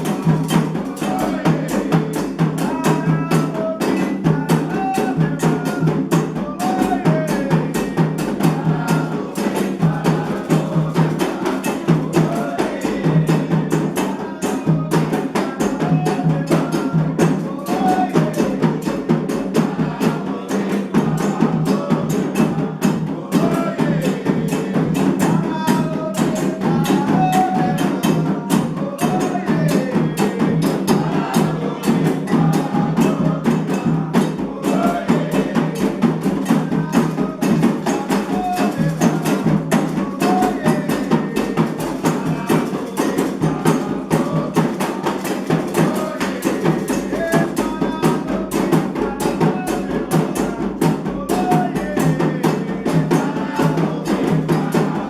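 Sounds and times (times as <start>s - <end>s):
hand drums: 0.0s - 55.0s
voices singing: 0.0s - 55.0s.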